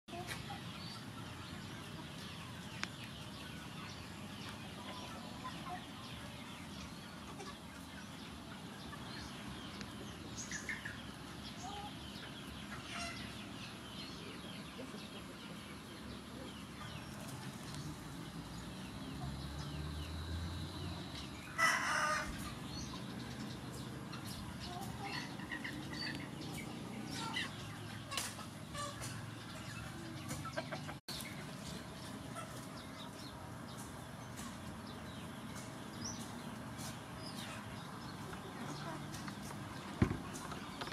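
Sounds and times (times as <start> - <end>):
chickens clucking: 0.1 - 40.9.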